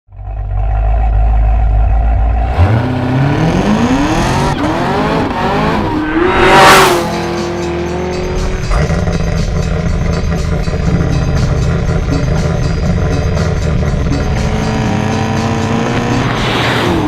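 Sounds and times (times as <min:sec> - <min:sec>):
car engine accelerating: 0:00.1 - 0:17.0.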